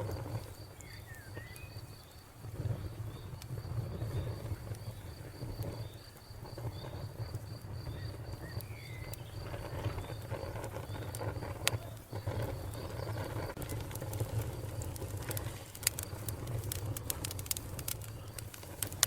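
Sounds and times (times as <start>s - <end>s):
insect chirping: 0.0s - 19.0s
wood fire crackling: 0.0s - 19.0s.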